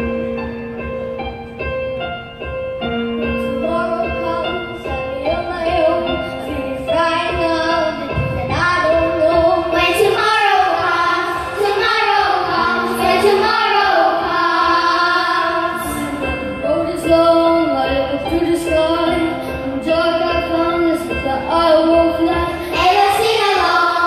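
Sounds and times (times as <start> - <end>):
instrumental backing music: 0.0 - 24.0
child singing: 3.4 - 24.0.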